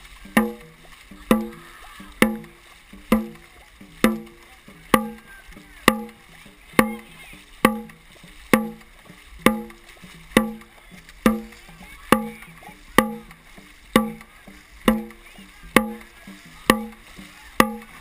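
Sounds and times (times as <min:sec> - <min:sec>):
drum struck at steady beat: 0:00.0 - 0:18.0.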